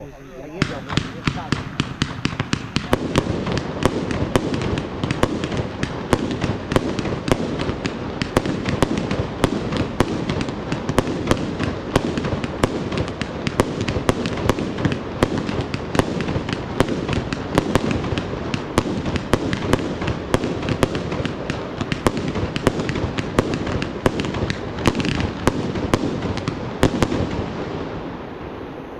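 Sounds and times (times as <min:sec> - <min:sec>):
fireworks bangs: 0:00.0 - 0:28.9
fireworks crackling hiss: 0:00.0 - 0:28.9.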